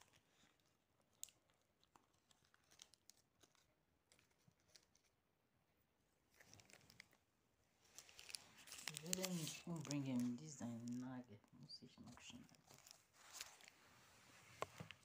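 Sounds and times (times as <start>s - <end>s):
faint crinkles and clicks: 0.0s - 15.0s.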